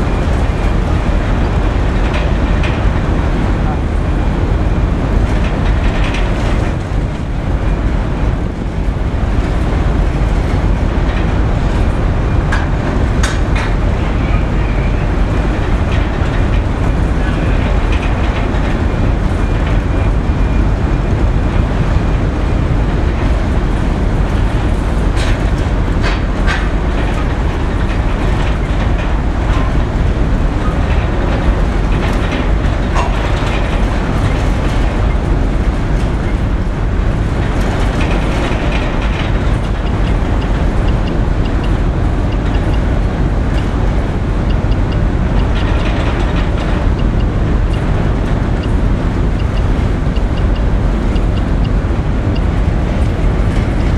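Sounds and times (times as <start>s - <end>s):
ship engines rumbling: 0.0s - 53.9s.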